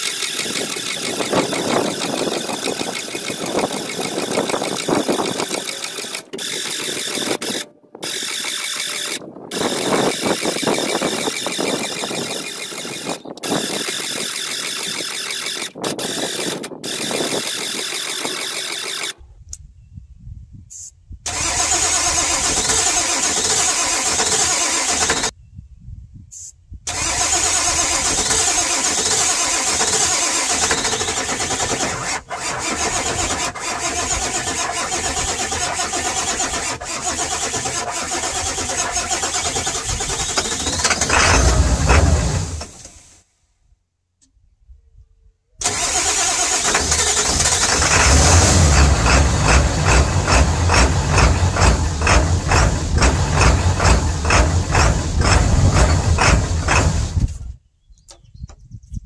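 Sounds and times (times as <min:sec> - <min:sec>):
diesel engine cranking: 0:00.0 - 0:19.2, 0:21.3 - 0:25.4, 0:26.9 - 0:43.2, 0:45.6 - 0:57.5.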